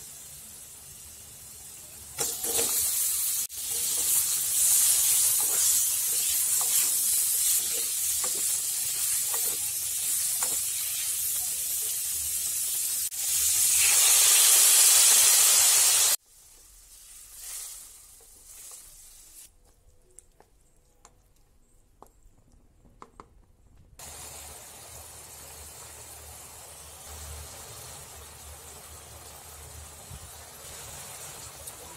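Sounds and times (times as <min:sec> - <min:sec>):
chicken sizzling in oil: 0:00.0 - 0:19.5, 0:24.0 - 0:31.9.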